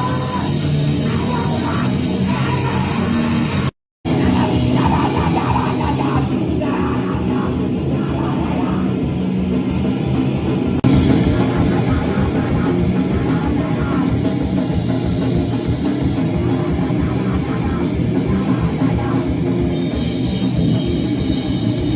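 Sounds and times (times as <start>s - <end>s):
live heavy rock band: 0.0s - 21.9s.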